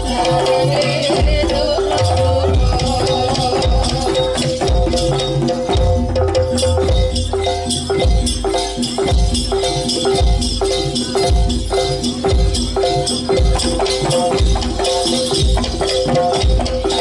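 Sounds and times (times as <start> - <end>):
busy high percussion: 0.0 - 17.0
heavy low drum beat: 0.0 - 17.0
repeating held melody: 0.0 - 17.0.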